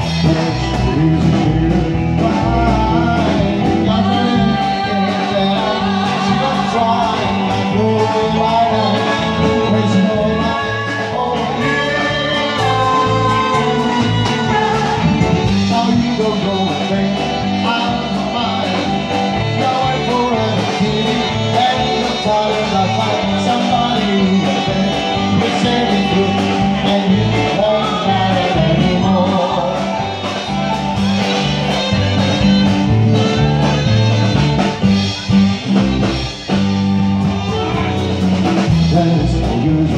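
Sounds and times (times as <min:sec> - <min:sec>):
man singing: 0:00.0 - 0:35.4, 0:37.4 - 0:39.9
electric guitar: 0:00.0 - 0:39.9.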